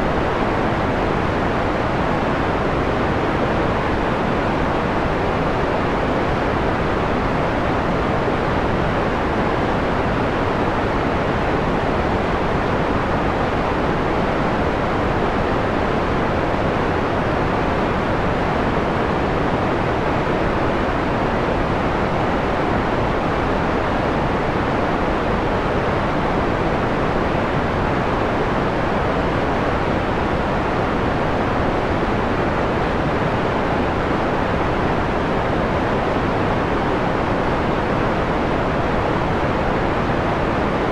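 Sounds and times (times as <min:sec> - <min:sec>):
filtered white noise hiss: 0:00.0 - 0:40.9.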